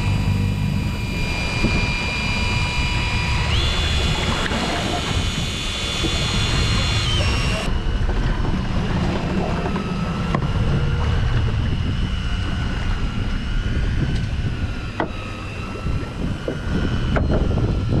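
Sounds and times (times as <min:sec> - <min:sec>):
boat engine running: 0:00.0 - 0:18.0
wind buffeting microphone: 0:00.0 - 0:18.0.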